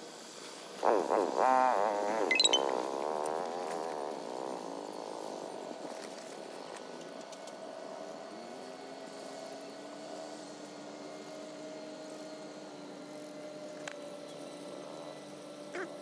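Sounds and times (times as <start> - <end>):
faint motor drone: 2.2 - 16.0.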